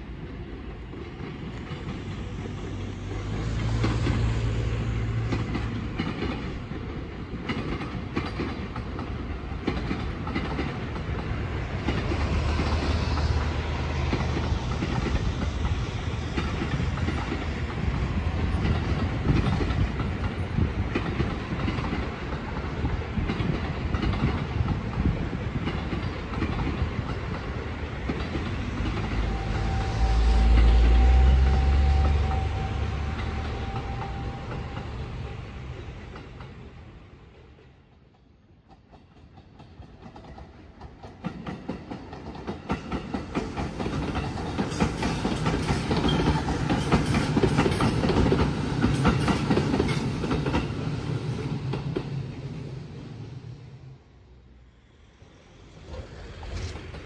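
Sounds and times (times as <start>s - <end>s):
train wheels clattering over rails: 0.0s - 53.7s, 55.7s - 57.0s
train rumble: 0.0s - 57.0s.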